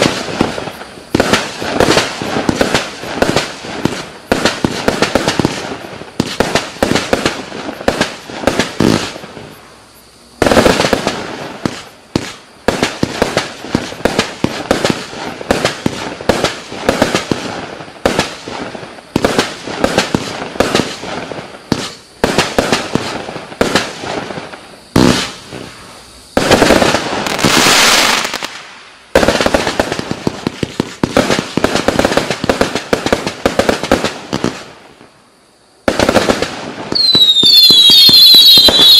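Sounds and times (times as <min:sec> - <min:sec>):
firework battery firing: 0:00.0 - 0:35.1, 0:35.8 - 0:38.9.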